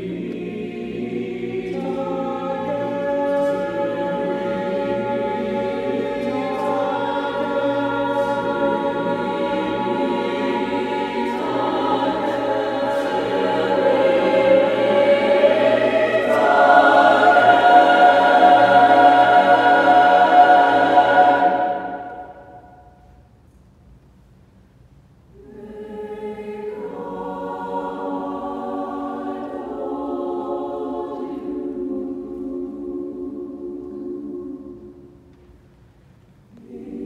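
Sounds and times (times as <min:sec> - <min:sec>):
choir singing sustained chords: 0:00.0 - 0:23.3, 0:25.3 - 0:37.0.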